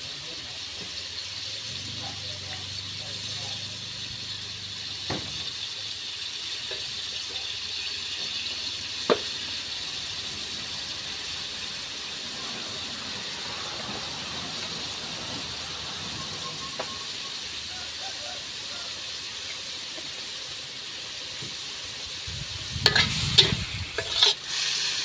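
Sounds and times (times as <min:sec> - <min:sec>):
food sizzling in wok: 0:00.0 - 0:25.0.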